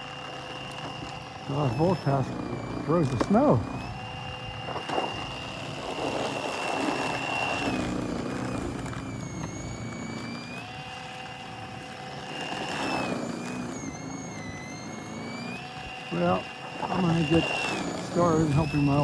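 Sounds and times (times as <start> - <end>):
electric snow shovel motor whine: 0.0 - 19.0.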